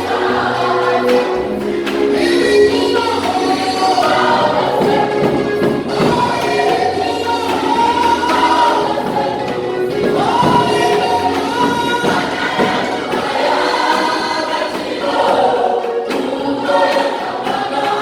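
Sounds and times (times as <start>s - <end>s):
church choir singing: 0.0s - 18.0s.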